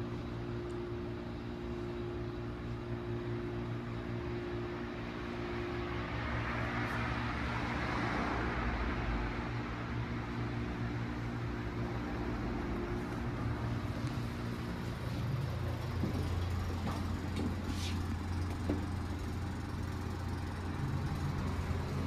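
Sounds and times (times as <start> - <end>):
elevator rumble and hum: 0.0 - 22.0.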